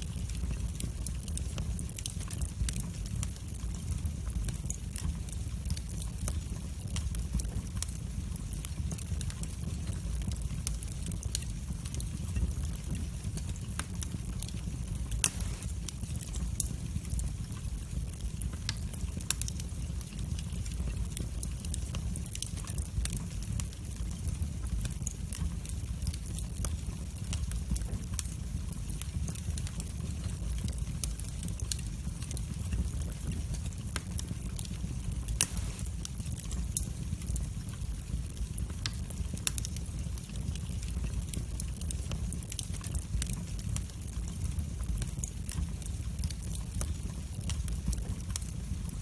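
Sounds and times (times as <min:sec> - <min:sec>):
fire popping and snapping: 0:00.0 - 0:49.0
wood fire crackling: 0:00.0 - 0:49.0.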